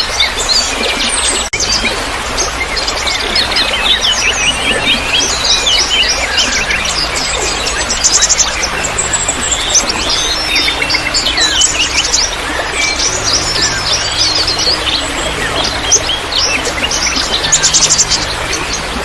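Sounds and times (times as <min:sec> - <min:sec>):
songbirds chirping and trilling: 0:00.0 - 0:19.0
water trickling: 0:00.0 - 0:19.0.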